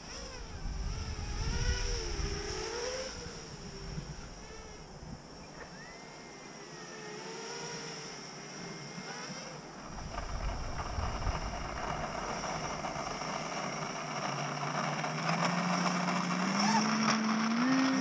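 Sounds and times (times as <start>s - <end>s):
drone motors whirring: 0.0s - 18.0s.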